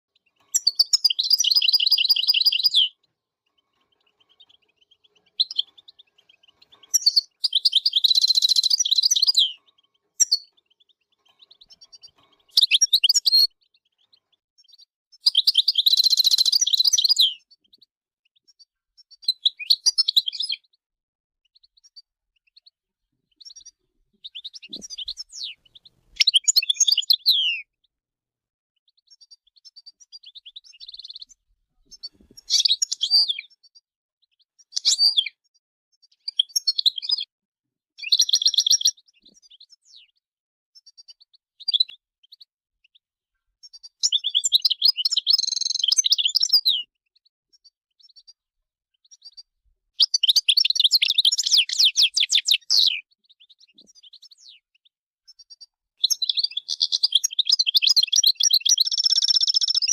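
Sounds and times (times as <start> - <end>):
goldfinch twittering and trills: 0.1 - 20.8, 21.5 - 27.6, 28.9 - 35.4, 36.0 - 37.3, 38.0 - 40.2, 40.8 - 43.0, 43.6 - 59.9.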